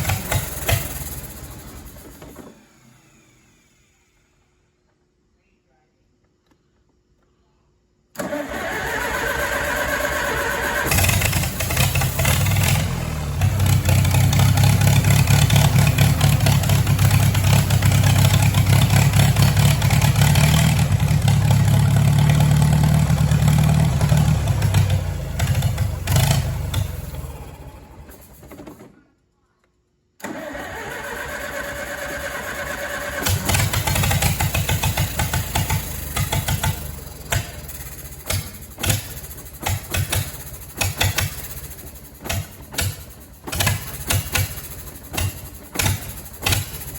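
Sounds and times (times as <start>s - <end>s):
starter cranking engine: 0.0s - 2.4s, 8.2s - 29.0s, 30.2s - 46.9s
tractor engine running: 0.0s - 2.8s, 8.2s - 28.8s, 30.2s - 46.9s.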